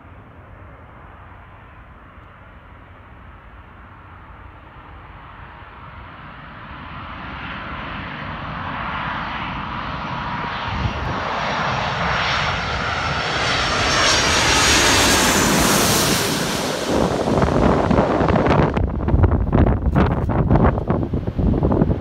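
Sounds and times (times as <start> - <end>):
jet engines rumbling overhead: 0.0 - 22.0.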